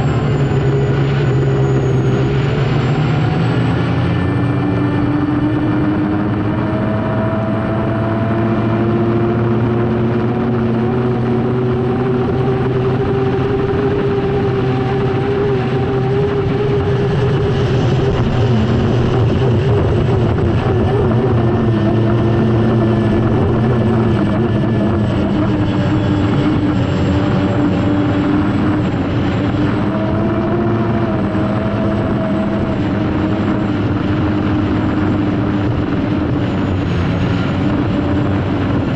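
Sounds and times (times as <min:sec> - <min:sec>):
turbine engine whining: 0:00.0 - 0:38.9.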